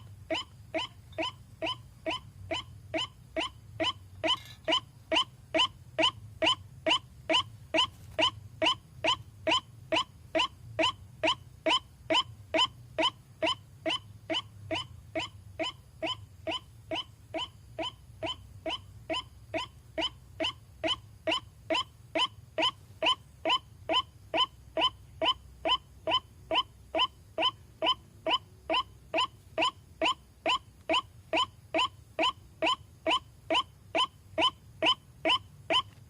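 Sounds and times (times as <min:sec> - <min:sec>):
faint low hum: 0:00.0 - 0:36.0
waterhen call nasal notes: 0:00.0 - 0:36.0.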